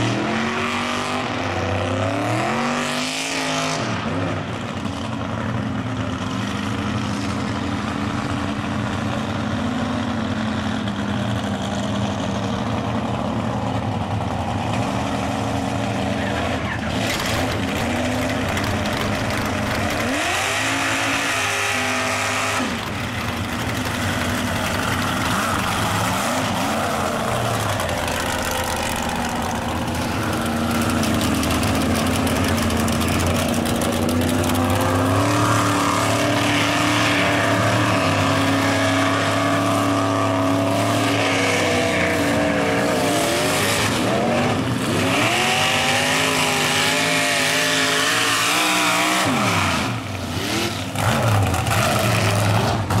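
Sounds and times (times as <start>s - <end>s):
truck engines revving high: 0.0s - 53.0s.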